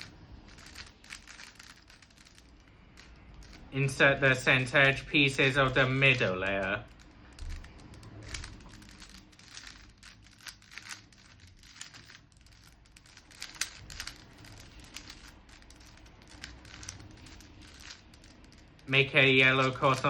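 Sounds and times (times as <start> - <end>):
puzzle cube clicking: 0.0 - 3.7, 5.7 - 19.0.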